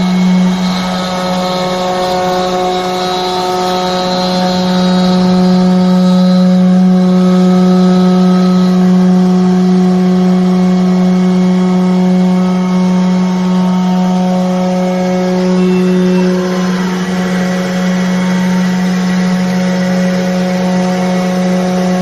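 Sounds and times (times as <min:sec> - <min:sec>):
cnc router spindle whine: 0:00.0 - 0:22.0
router cutting wood: 0:00.0 - 0:22.0.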